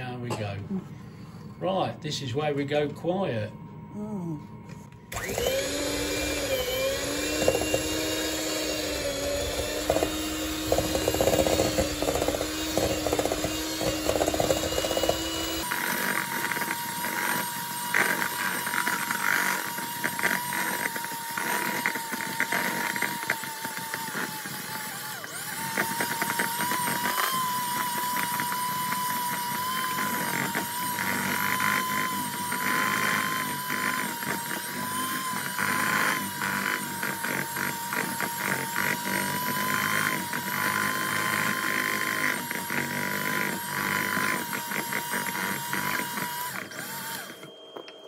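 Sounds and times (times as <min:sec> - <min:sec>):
electric hand mixer whining: 0:05.0 - 0:48.0.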